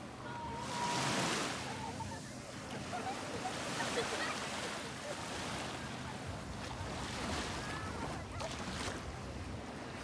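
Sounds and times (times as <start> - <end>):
small waves washing on shore: 0.0 - 10.0.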